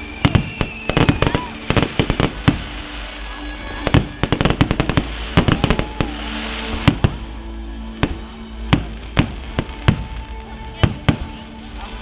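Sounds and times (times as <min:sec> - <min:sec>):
fireworks and firecrackers banging: 0:00.0 - 0:12.0
music playing: 0:00.0 - 0:12.0.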